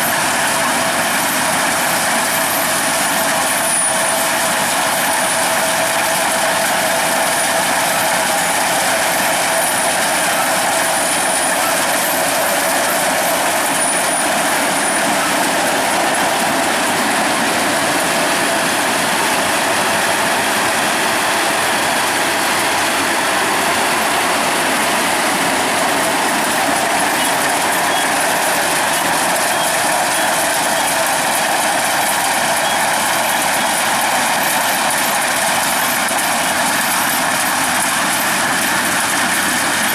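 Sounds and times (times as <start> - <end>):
combine harvester machinery running: 0.0 - 39.9.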